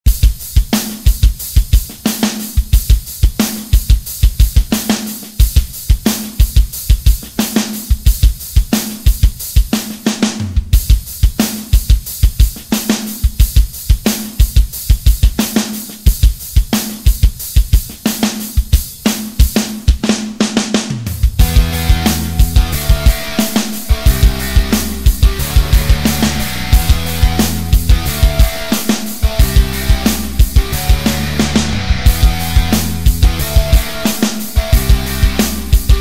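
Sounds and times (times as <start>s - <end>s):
drum kit playing a steady beat: 0.0s - 36.0s.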